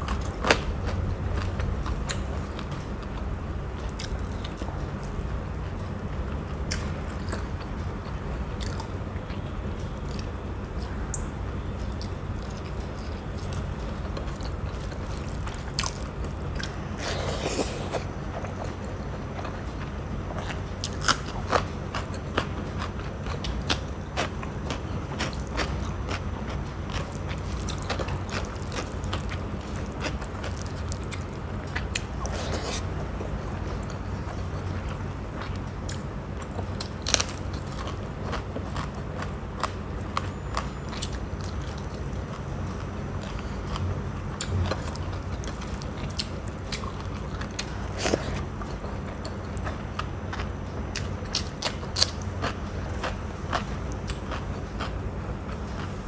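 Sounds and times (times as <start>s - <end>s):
close-miked chewing and crunching: 0.0s - 56.0s
steady low hum: 0.0s - 56.0s.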